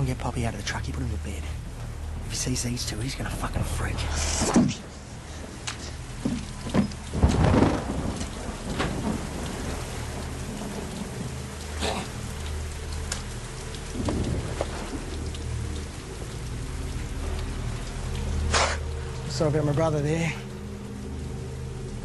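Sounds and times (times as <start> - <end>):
heavy rain falling: 0.0 - 22.0
thunder rumble: 0.0 - 22.0.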